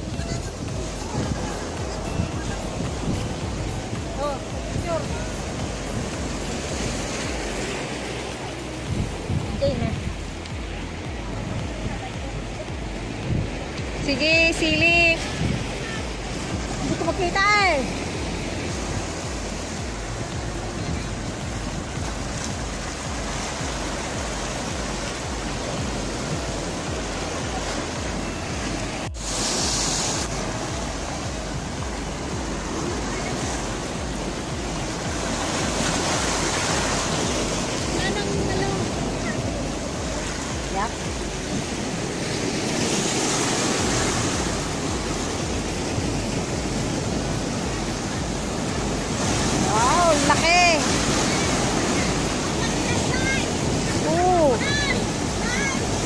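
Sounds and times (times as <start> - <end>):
hissy wave splash: 0.0 - 56.0
waves breaking over rocks: 0.0 - 56.0.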